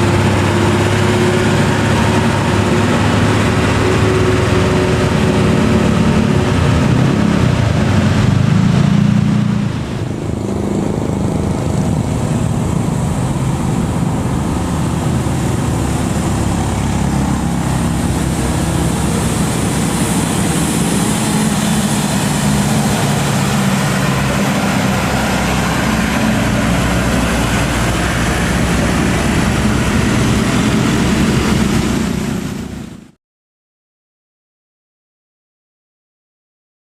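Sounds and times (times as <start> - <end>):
diesel truck engine rumbling: 0.0 - 33.2.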